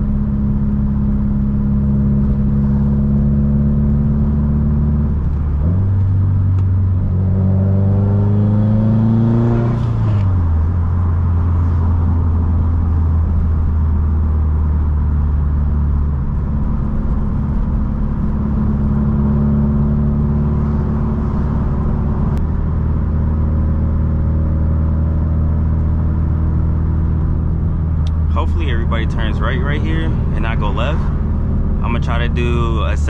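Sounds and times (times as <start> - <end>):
car engine and exhaust drone: 0.0 - 33.0.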